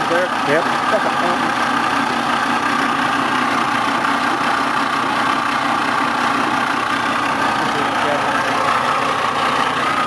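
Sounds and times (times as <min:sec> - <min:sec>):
engine cranking without firing: 0:00.0 - 0:10.0.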